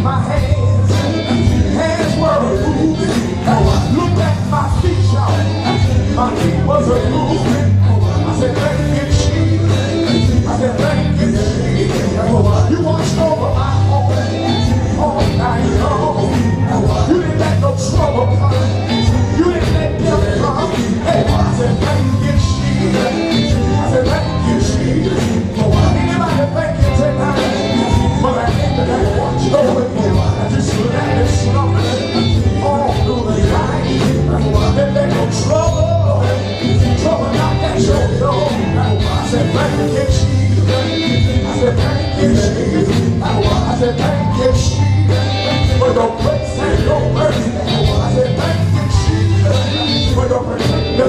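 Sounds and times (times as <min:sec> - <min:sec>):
bass: 0:00.0 - 0:51.0
live gospel band music: 0:00.0 - 0:51.0
people singing: 0:00.0 - 0:51.0
drum beat: 0:00.4 - 0:50.7.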